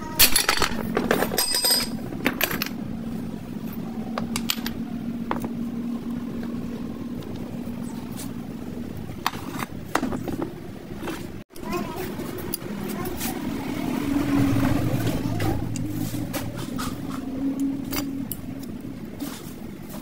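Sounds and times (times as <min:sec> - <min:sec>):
machine humming: 0:01.0 - 0:11.5, 0:12.1 - 0:20.0.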